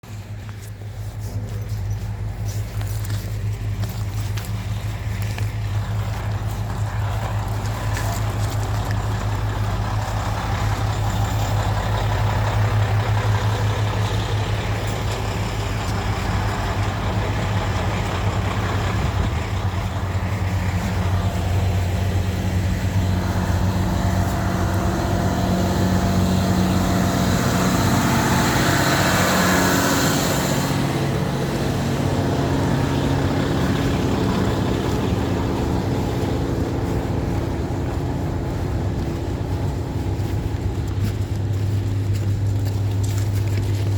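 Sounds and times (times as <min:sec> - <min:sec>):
diesel railcar engines humming: 0:00.0 - 0:43.9.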